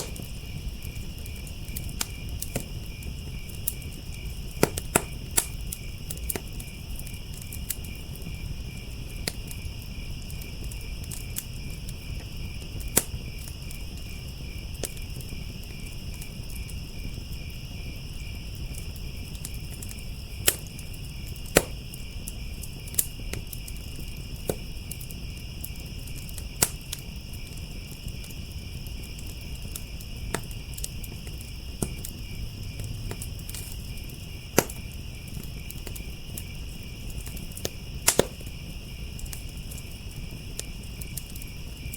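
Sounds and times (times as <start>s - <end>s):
crickets trilling: 0.0s - 41.9s
wood fire crackling and popping: 0.0s - 41.9s.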